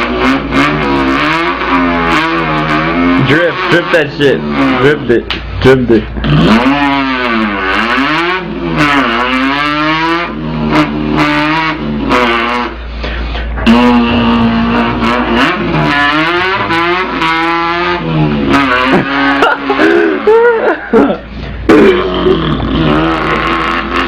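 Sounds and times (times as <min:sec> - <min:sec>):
man imitating car engine: 0:00.0 - 0:24.0.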